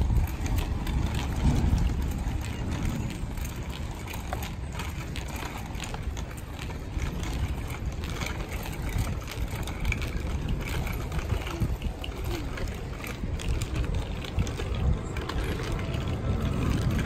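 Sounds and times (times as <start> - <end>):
bicycle rattling on pavement: 0.0 - 17.0
wind on microphone: 0.0 - 17.0.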